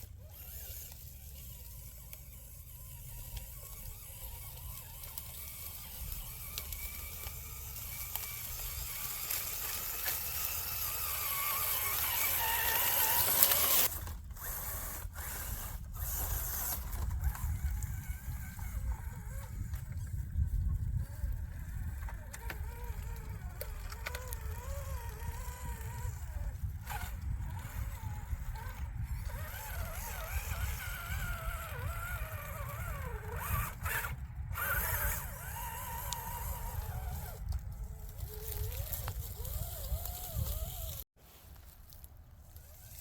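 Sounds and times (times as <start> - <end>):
small electric motor whining: 0.0 - 41.2, 42.4 - 43.0.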